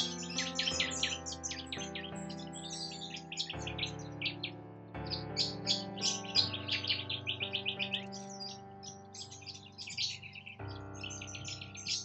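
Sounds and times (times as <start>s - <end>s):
soft chord music: 0.0s - 12.0s
wild birds chirping: 0.0s - 12.0s.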